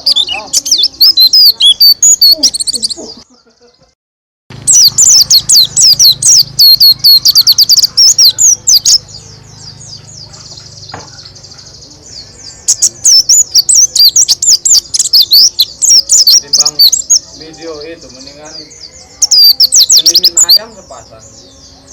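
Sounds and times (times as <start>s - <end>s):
bird singing high chirps: 0.0s - 3.3s, 4.6s - 21.9s
faint bird twittering: 0.0s - 3.7s, 4.6s - 21.9s.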